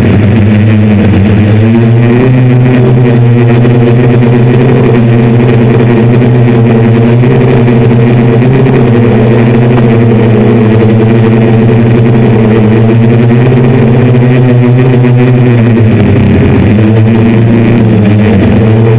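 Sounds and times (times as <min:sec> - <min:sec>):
drone propellers buzzing: 0:00.0 - 0:18.9.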